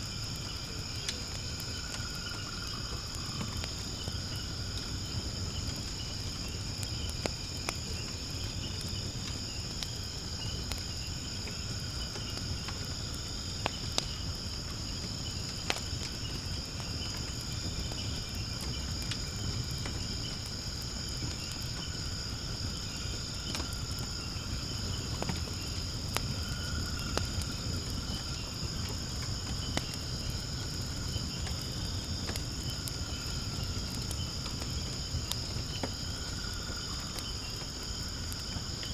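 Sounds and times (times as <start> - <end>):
firewood crackling and popping: 0.0 - 38.9
insects chirring: 0.0 - 38.9
low rumble of flame: 0.0 - 38.9.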